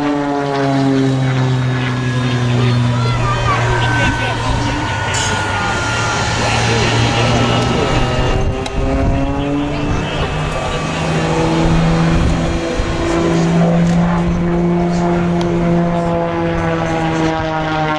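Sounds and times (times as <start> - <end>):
aircraft engine droning hum: 0.0 - 17.9.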